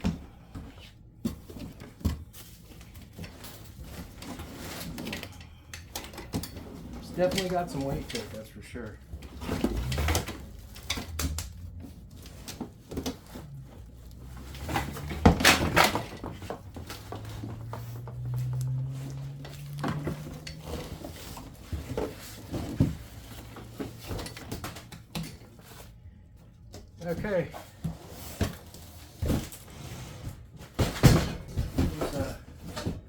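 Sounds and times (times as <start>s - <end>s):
plastic parts and packaging clattering: 0.0s - 33.0s.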